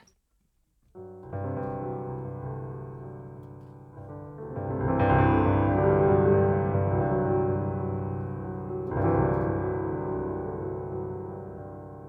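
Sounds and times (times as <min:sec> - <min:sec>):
soft piano chords: 0:01.0 - 0:12.0.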